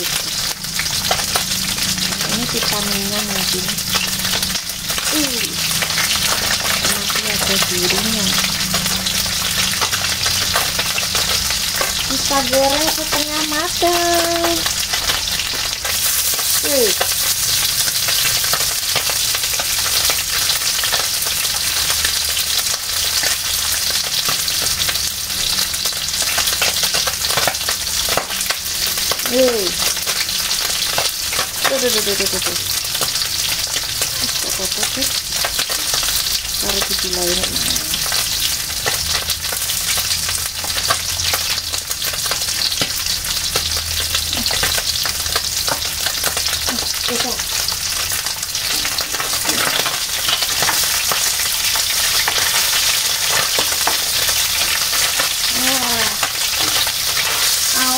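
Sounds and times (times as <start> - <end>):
fish sizzling in oil: 0.0 - 57.9.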